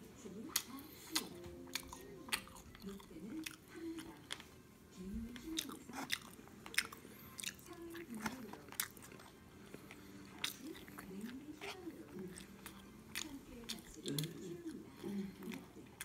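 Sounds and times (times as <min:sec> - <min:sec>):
person chewing fries: 0:00.5 - 0:04.6, 0:05.3 - 0:16.0.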